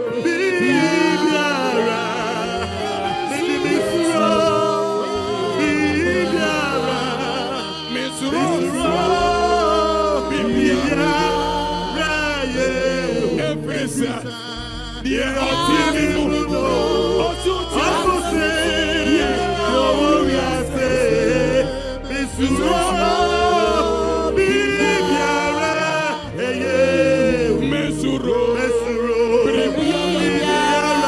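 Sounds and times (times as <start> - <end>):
low bass accompaniment: 0.0 - 31.0
voices singing gospel song: 0.0 - 31.0.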